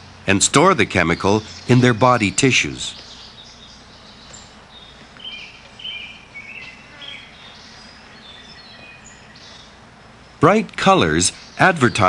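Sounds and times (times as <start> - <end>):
bird chirping: 0.0 - 12.0
soft outdoor hiss: 0.0 - 12.0.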